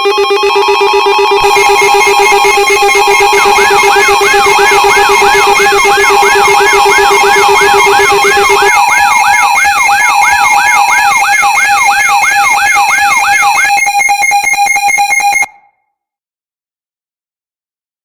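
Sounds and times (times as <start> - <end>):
electronic alarm siren whooping: 0.0 - 15.7
steady alarm tones: 0.0 - 15.7.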